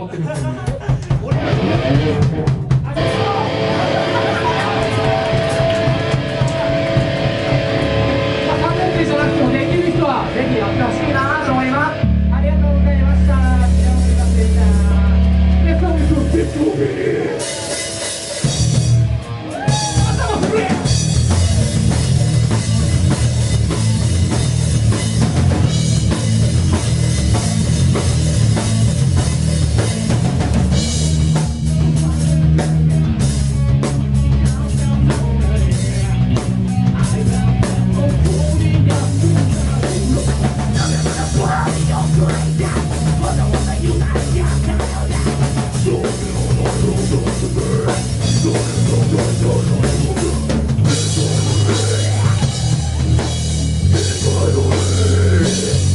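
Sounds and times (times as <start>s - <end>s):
bass guitar: 0.0s - 55.9s
distorted electric guitars: 0.0s - 55.9s
pounding drum kit: 0.0s - 55.9s.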